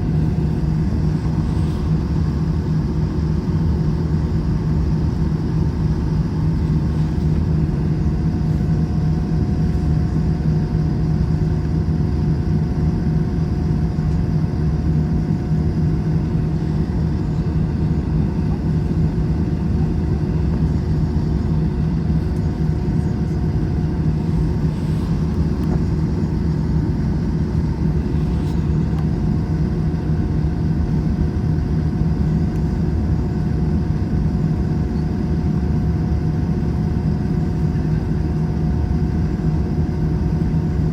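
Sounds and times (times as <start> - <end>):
jet cabin engine rumble: 0.0 - 40.9.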